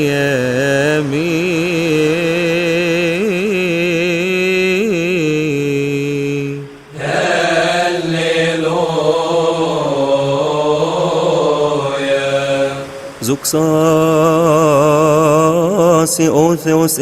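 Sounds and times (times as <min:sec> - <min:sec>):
slow melismatic chant: 0:00.0 - 0:17.0.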